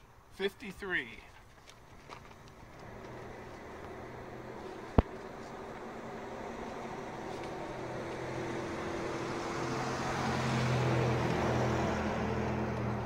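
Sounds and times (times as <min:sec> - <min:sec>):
vehicle driving past: 0:01.8 - 0:13.0.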